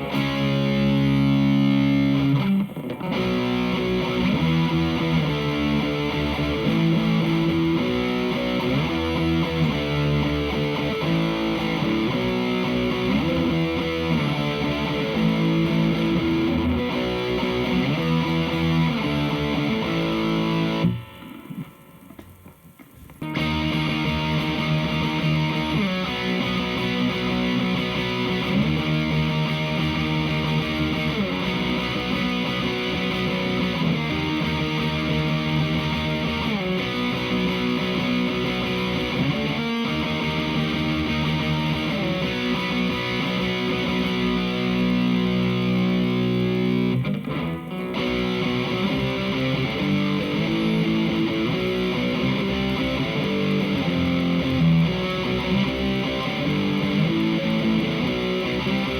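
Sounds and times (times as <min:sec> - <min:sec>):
distorted electric guitar chords: 0:00.0 - 0:58.9.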